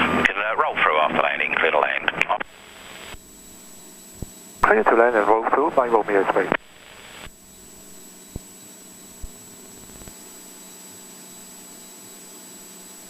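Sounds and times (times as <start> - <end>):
intercom hiss and hum: 0.0 - 10.6
faint aircraft engine: 0.0 - 13.0
high whine: 0.0 - 13.0.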